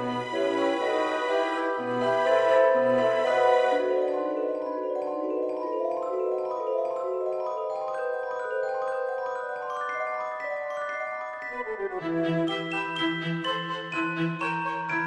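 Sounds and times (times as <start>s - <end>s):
mallet instrument melody: 0.0s - 15.0s.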